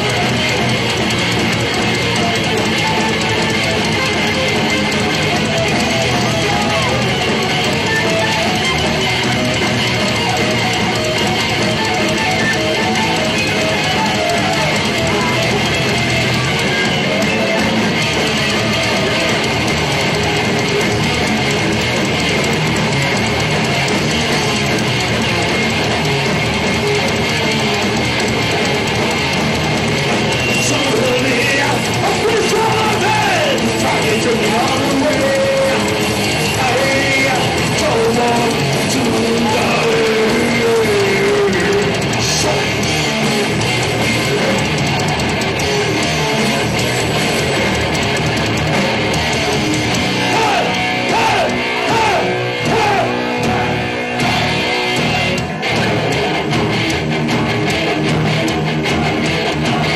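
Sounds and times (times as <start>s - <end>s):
heavy metal band playing: 0.0s - 59.9s
lead electric guitar: 0.0s - 59.9s.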